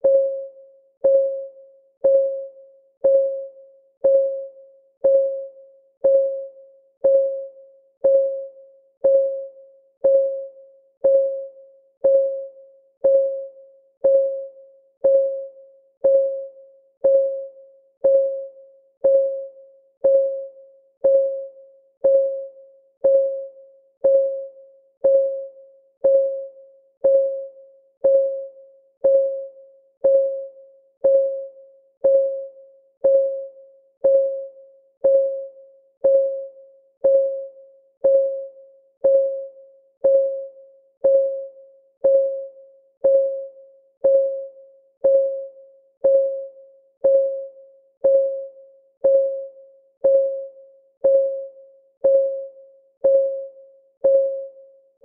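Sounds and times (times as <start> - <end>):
timer clock ticking: 2.0 - 15.4, 18.0 - 22.4, 23.0 - 54.6.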